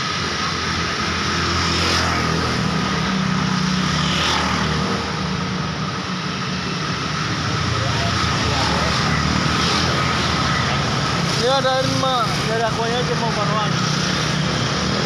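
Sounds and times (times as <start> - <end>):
vehicle engines running: 0.0 - 15.0.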